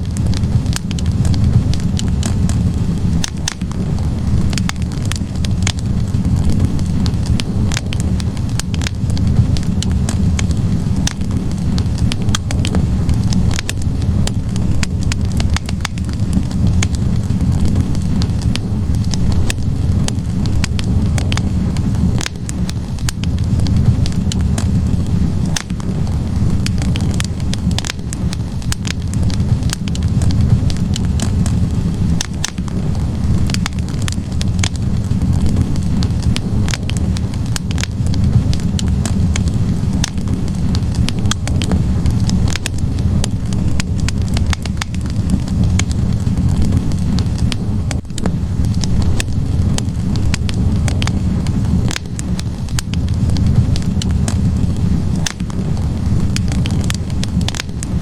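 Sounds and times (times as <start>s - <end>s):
flames rumbling: 0.0s - 58.0s
wood crackling and popping: 0.0s - 58.0s.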